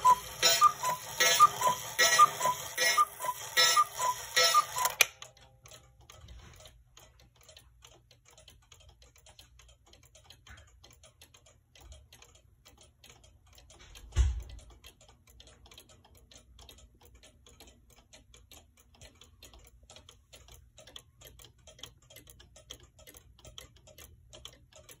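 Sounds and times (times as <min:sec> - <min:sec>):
cuckoo clock ticking: 0:00.0 - 0:25.0.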